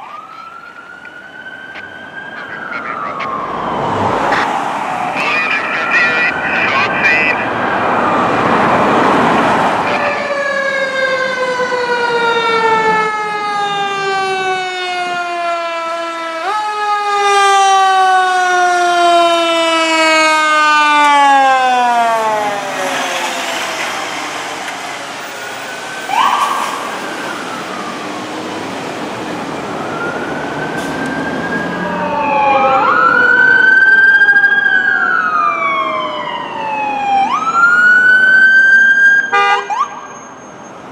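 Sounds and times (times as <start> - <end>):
siren falling in pitch: 0.0 - 9.0, 9.8 - 28.5, 29.3 - 40.1
siren wailing up and down: 0.0 - 40.4.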